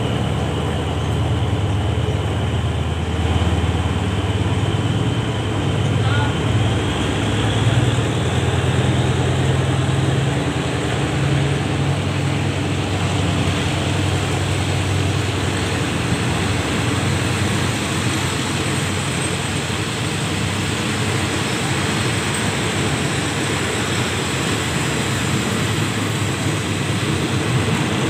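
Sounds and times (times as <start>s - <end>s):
diesel locomotive engine hum: 0.0s - 28.0s
train rushing noise: 0.0s - 28.0s.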